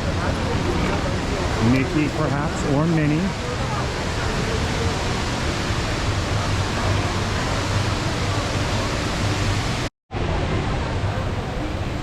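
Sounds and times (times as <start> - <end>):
faint crowd voices: 0.0 - 12.0
indoor waterfall rushing: 0.0 - 12.0.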